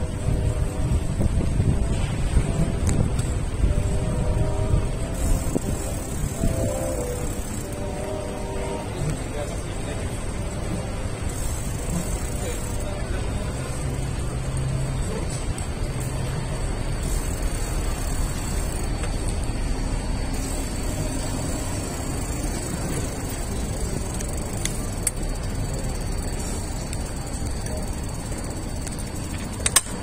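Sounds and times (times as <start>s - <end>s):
distant traffic rumble: 0.0s - 30.0s
faint high whine: 0.0s - 30.0s.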